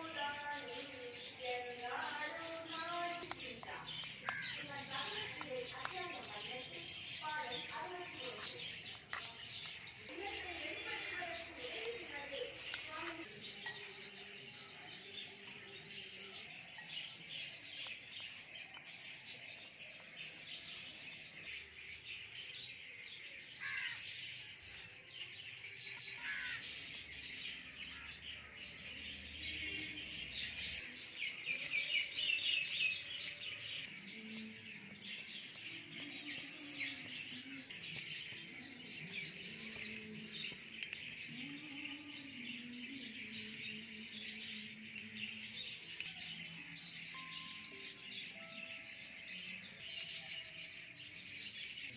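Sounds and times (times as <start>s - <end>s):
faint background music: 0.0s - 51.9s
small birds chirping: 0.0s - 51.9s.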